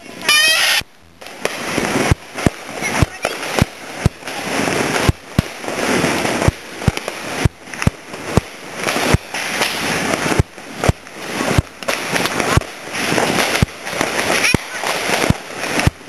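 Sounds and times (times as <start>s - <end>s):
fireworks bangs: 0.0s - 16.0s
steady hiss: 0.0s - 16.0s.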